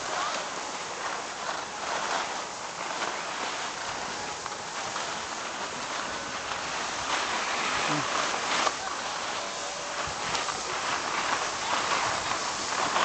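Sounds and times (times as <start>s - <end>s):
skis scraping over snow: 0.0s - 13.0s.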